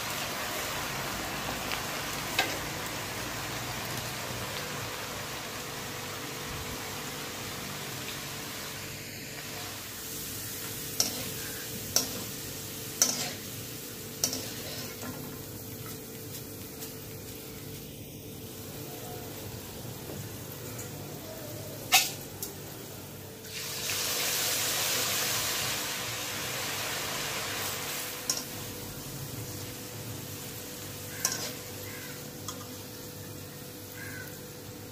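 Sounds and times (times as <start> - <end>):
potato deep-frying in hot oil: 0.0 - 34.9.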